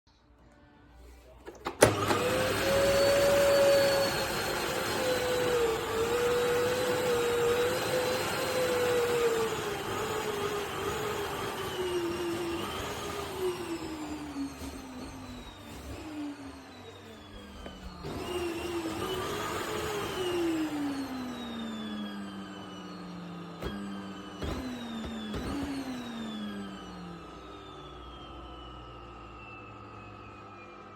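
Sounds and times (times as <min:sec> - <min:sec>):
vacuum cleaner motor whine: 0:00.6 - 0:30.9.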